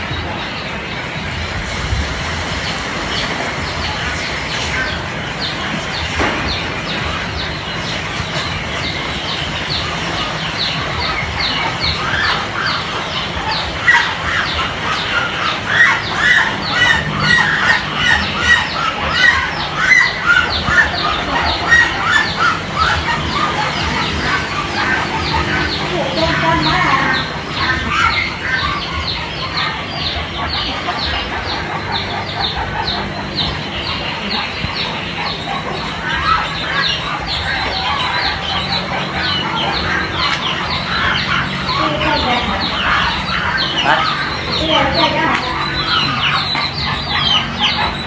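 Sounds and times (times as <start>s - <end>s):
birds peeping chorus: 0.0s - 48.0s.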